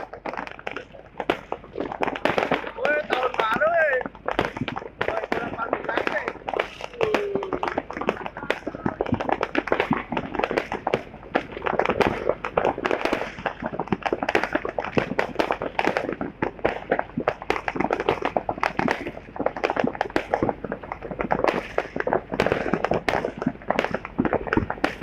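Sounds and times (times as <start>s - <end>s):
firecrackers popping and crackling: 0.0s - 25.0s.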